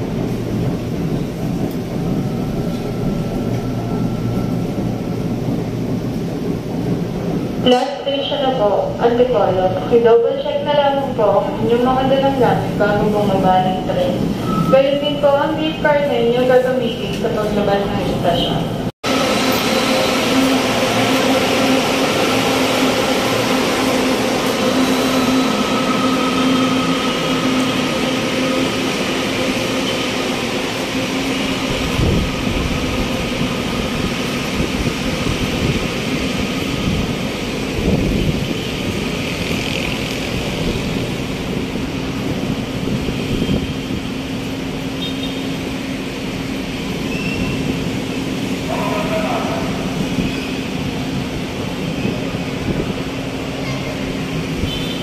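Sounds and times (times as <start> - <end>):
train humming and rumbling: 0.0 - 55.0.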